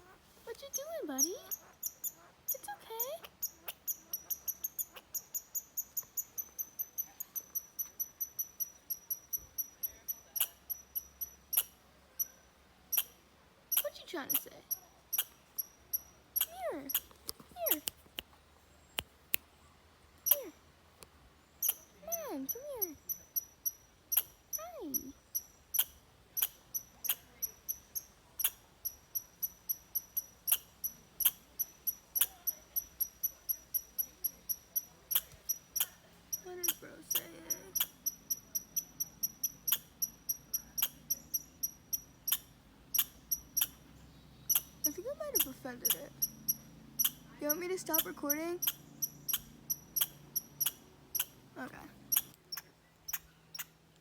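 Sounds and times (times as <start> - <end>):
squirrel alarm chirps: 0.0 - 17.9, 20.2 - 20.6, 21.6 - 43.9, 44.5 - 53.8.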